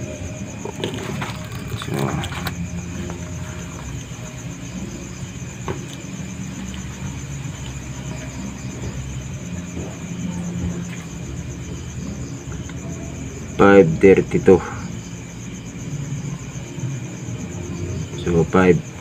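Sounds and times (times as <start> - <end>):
crickets trilling: 0.0 - 19.0
low background rumble: 0.0 - 19.0.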